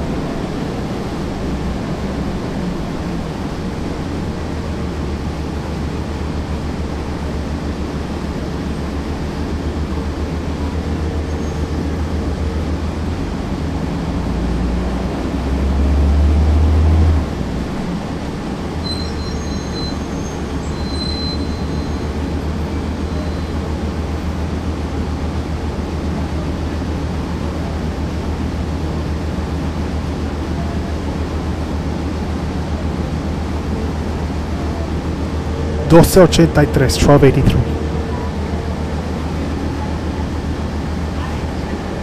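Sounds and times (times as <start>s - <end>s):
bus diesel engine droning: 0.0s - 42.0s.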